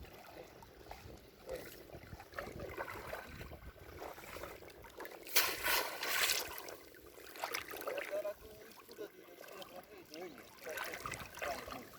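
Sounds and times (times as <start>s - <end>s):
water splashing and dripping: 0.0s - 11.9s.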